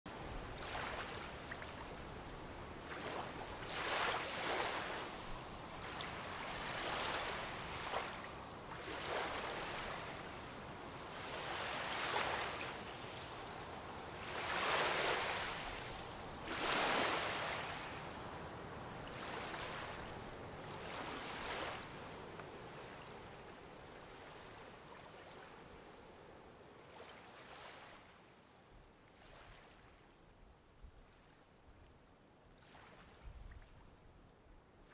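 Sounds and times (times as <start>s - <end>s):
small waves washing onto beach: 0.1s - 28.4s.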